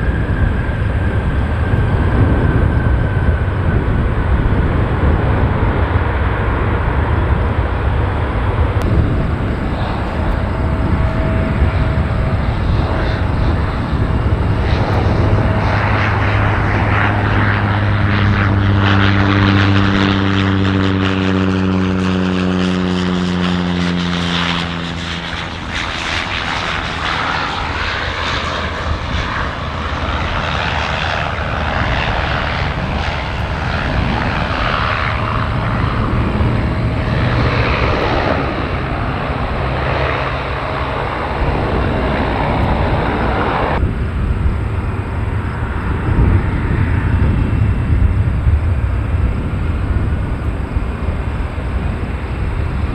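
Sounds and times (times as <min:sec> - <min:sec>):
airliner engine passing: 0:00.0 - 0:52.9.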